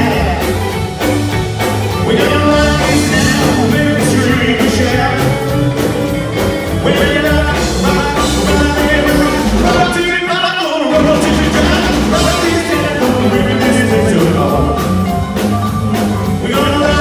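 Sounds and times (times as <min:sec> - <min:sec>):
rockabilly band playing: 0:00.0 - 0:17.0.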